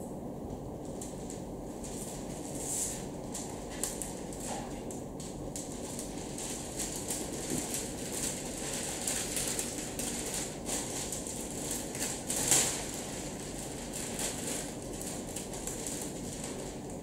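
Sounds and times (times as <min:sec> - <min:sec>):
sheet crinkling and rustling: 0:01.0 - 0:17.0.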